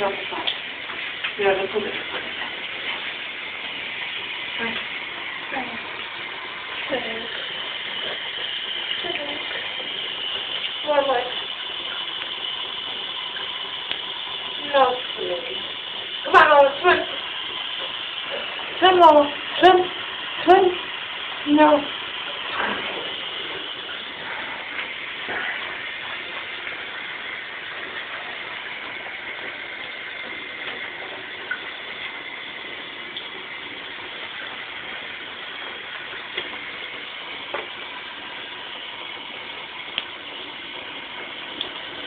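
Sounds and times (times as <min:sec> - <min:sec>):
water running into bathtub: 0:00.0 - 0:42.0.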